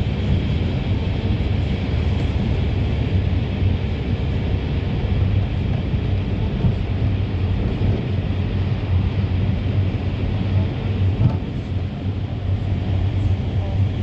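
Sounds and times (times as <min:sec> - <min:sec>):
minibus engine and road noise: 0:00.0 - 0:14.0.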